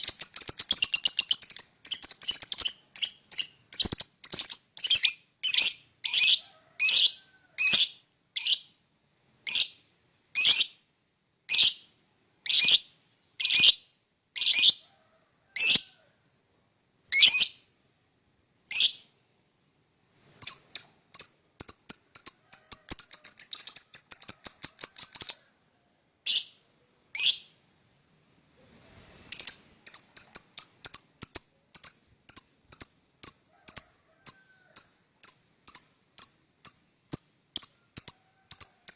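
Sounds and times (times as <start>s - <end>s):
lovebird chirping: 0.0s - 8.8s, 11.5s - 14.8s, 17.1s - 17.7s, 18.7s - 19.2s, 20.2s - 38.9s.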